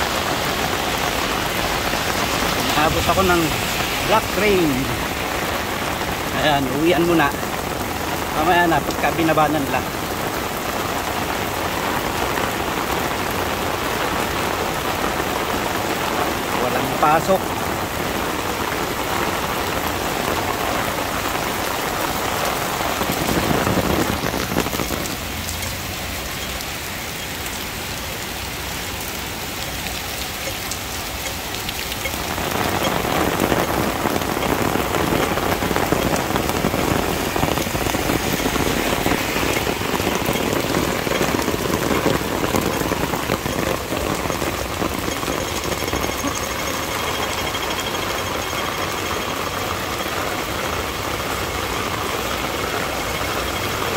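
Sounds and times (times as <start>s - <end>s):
heavy rain pouring on street: 0.0s - 53.9s
rain beating on an umbrella: 0.0s - 53.9s.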